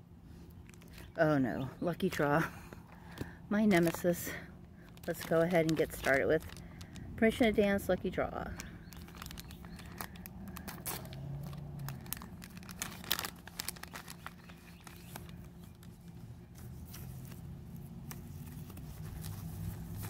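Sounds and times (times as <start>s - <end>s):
foam wrapper rustling: 0.6s - 1.2s, 2.0s - 20.0s
foil pouch crinkling and tearing: 3.1s - 20.0s.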